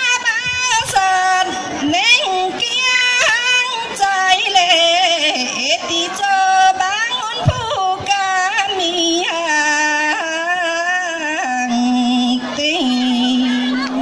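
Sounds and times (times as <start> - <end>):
person singing into a microphone: 0.0 - 14.0.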